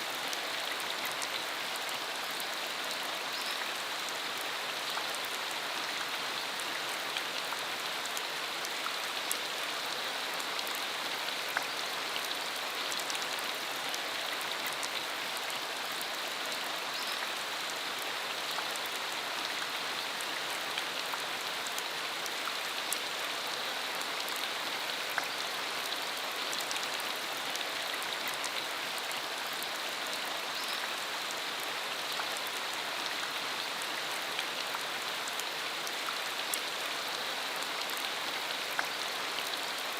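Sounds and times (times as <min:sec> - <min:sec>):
hard rain shower: 0:00.0 - 0:39.9.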